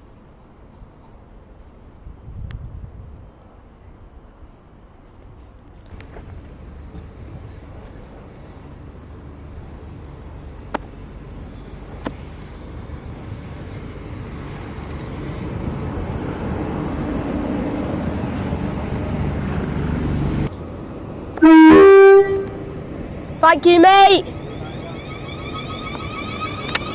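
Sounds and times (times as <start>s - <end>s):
train approaching rumble: 0.0s - 26.9s.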